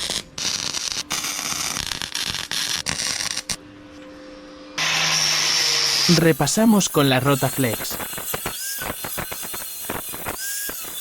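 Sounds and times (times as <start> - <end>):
welding arc crackling: 0.0 - 3.6, 4.8 - 11.0.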